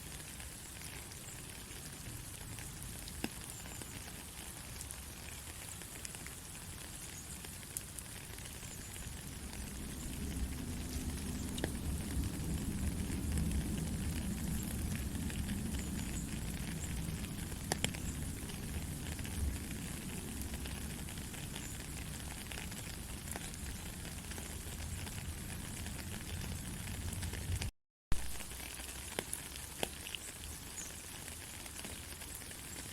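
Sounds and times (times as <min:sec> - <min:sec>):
sharp raindrop ticks: 0:00.0 - 0:32.9
steady rain hiss: 0:00.0 - 0:32.9.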